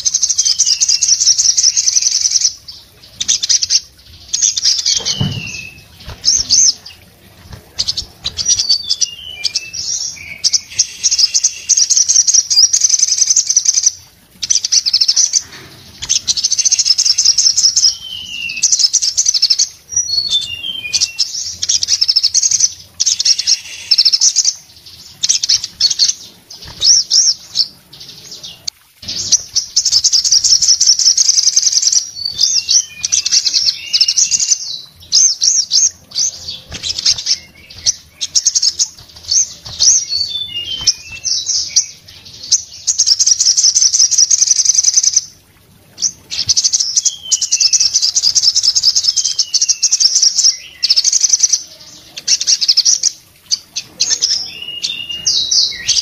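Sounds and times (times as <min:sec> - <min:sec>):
bird singing fast trills: 0:00.0 - 0:45.4, 0:46.0 - 0:56.0.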